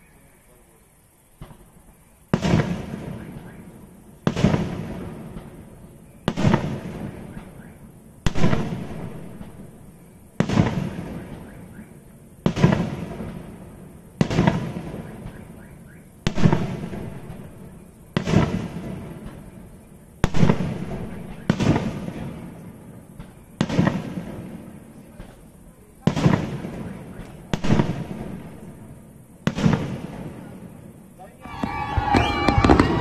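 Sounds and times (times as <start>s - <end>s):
fireworks bangs: 1.3s - 33.0s.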